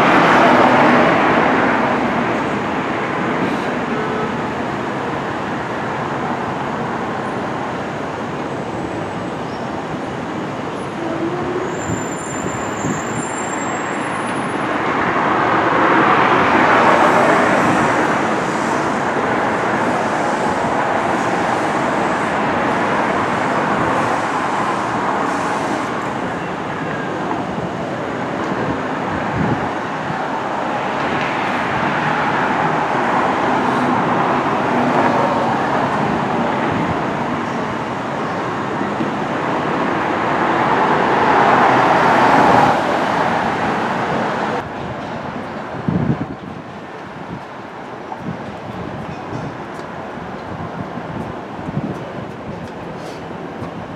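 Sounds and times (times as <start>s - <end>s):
vehicles passing: 0.0s - 53.9s.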